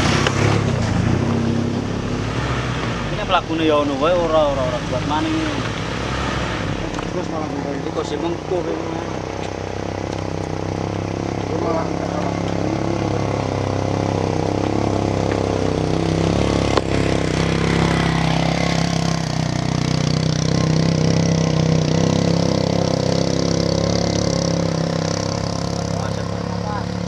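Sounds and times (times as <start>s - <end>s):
vehicle engine under load: 0.0s - 27.0s.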